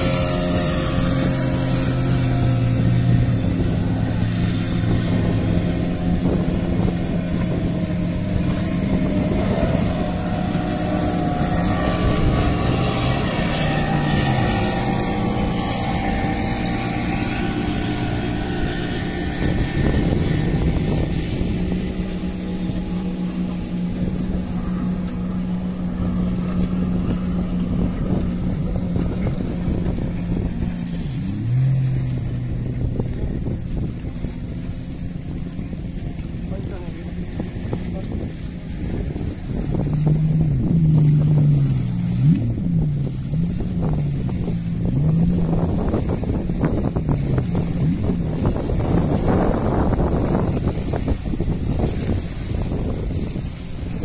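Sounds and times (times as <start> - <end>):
motorboat engine droning: 0.0 - 54.0
water noise: 0.0 - 54.0
wind noise: 0.0 - 54.0.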